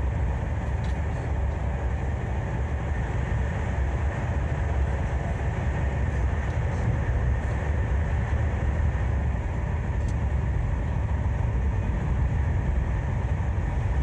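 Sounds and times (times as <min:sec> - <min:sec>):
train interior low rumble: 0:00.0 - 0:14.0.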